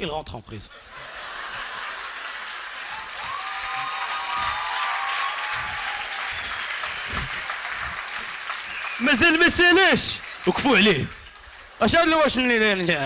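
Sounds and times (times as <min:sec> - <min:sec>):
audience applauding: 0:00.9 - 0:13.0.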